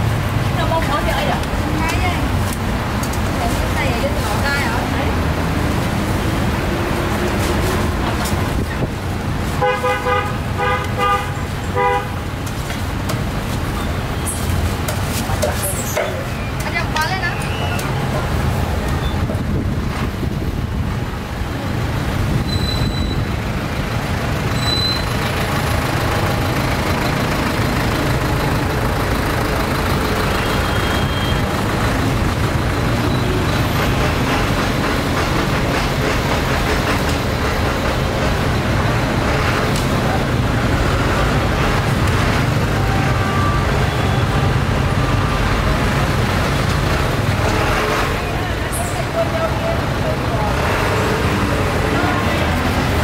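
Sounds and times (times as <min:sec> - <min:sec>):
road traffic din: 0:00.0 - 0:53.0
vehicle engines running: 0:00.0 - 0:53.0.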